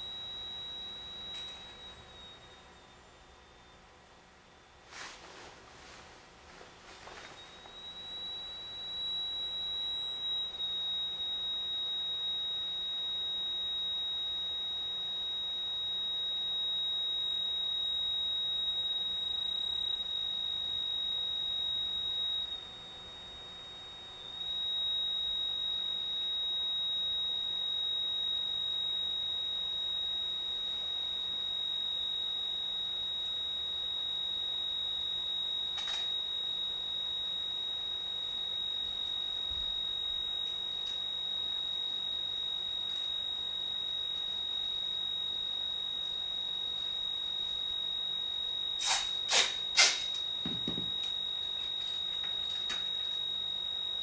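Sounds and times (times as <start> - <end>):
high-pitched electronic sine tone: 0.0 - 4.9, 7.0 - 54.0.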